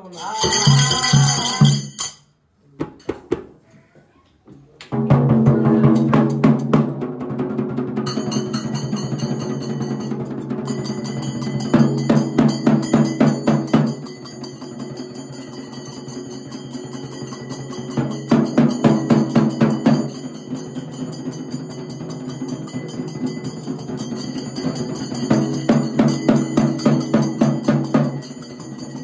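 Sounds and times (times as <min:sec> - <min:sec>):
drums and metal percussion: 0:00.0 - 0:03.7, 0:04.9 - 0:29.0.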